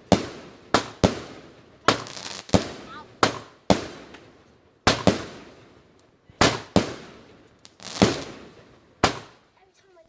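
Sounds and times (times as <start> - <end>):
fireworks bangs with echo: 0.0 - 9.5.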